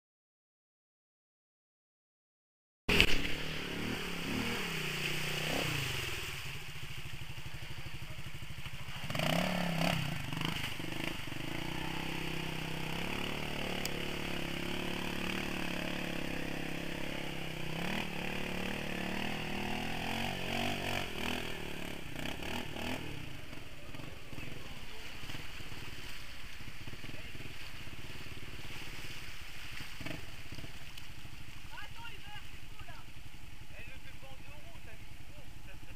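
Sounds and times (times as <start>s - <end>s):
quad bike engines revving: 2.9s - 35.9s.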